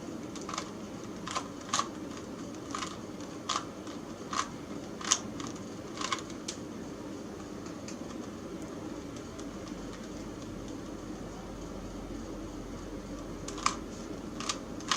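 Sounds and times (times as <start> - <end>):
low room hum: 0.0 - 14.9.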